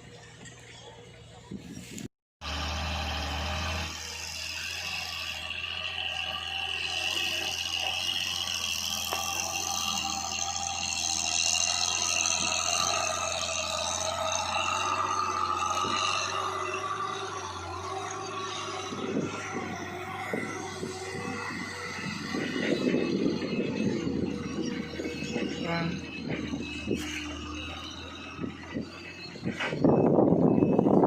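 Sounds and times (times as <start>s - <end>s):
truck engine humming: 0.0s - 31.0s
whining drivetrain: 0.0s - 31.0s.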